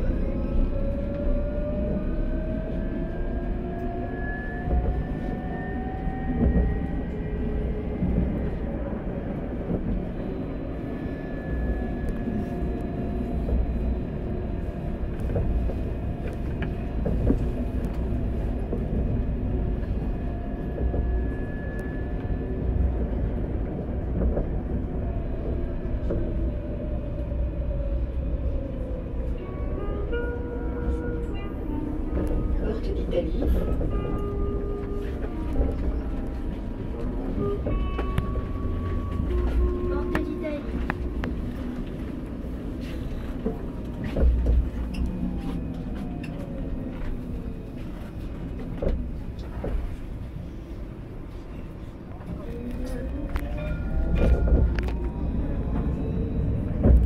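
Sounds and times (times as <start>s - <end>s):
tram wheels rumbling on track: 0.0s - 57.0s.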